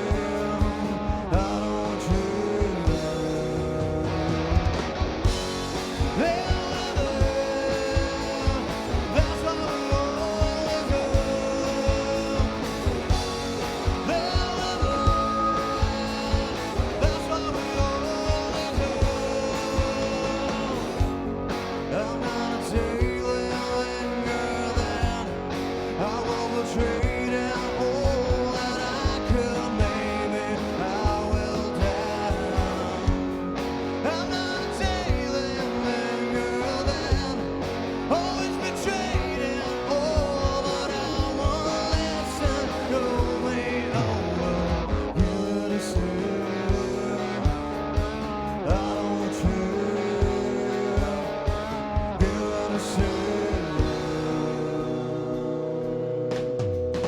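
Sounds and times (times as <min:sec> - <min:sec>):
electric guitar: 0:00.0 - 0:57.0
steady drum beat: 0:00.0 - 0:57.0.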